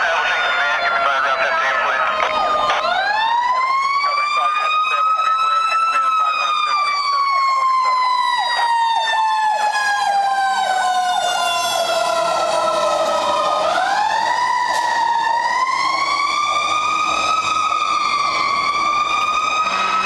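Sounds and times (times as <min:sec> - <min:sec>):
fast sweeping siren: 0:00.0 - 0:20.0
fire truck siren wailing: 0:00.0 - 0:20.0.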